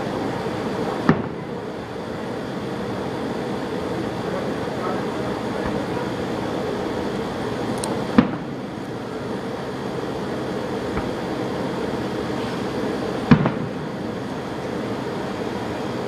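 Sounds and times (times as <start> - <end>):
fireworks bursts banging: 0.0 - 1.8, 3.3 - 15.8
steady rumbling background: 0.0 - 16.0.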